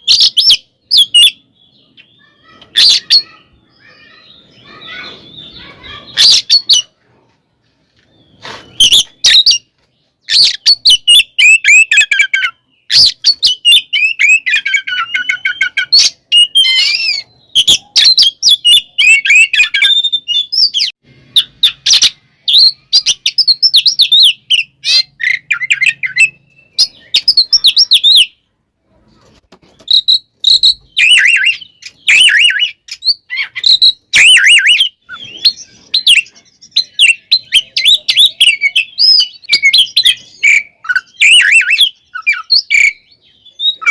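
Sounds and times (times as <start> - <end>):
bird singing whistles and chatter: 0.0 - 7.0, 8.2 - 28.4, 29.6 - 43.9.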